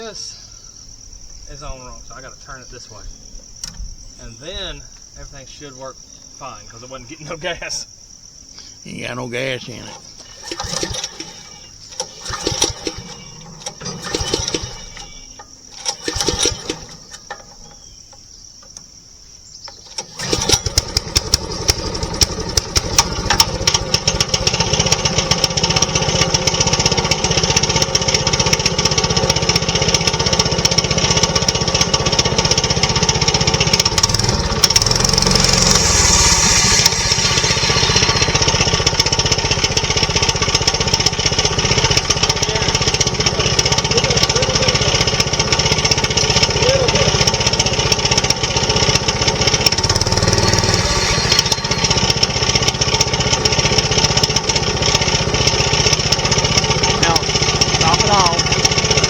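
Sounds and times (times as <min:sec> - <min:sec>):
small gasoline engine running: 0:09.1 - 0:18.0, 0:19.7 - 0:59.0.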